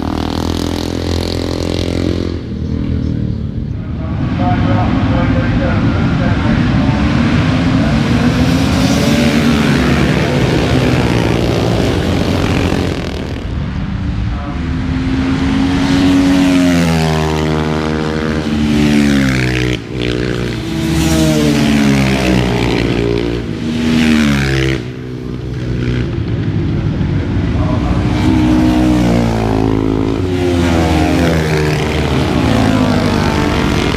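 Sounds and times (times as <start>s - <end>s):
racing motorcycles passing: 0.0s - 33.9s.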